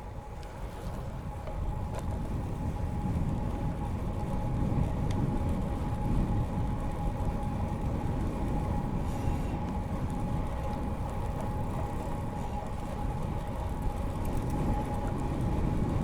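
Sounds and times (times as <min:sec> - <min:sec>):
bike tyre and wind noise: 0:00.0 - 0:16.0.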